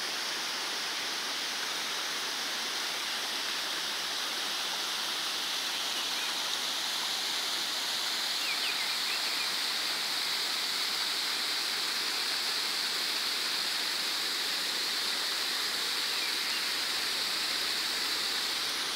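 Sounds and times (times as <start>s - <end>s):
stream running over stones: 0.0s - 18.9s
waterfall rushing: 0.0s - 18.9s.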